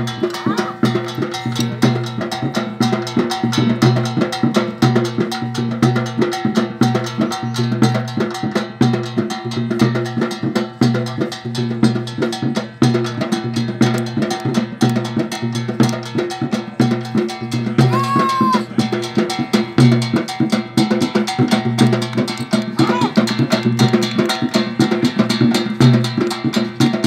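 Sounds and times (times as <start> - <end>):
fast folk drumming: 0.0 - 27.0.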